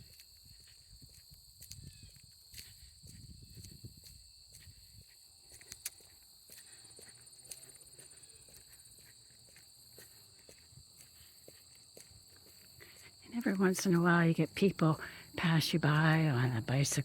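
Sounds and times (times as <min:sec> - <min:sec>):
crickets chirping: 0:00.0 - 0:17.0
footsteps on a trail: 0:00.0 - 0:17.0.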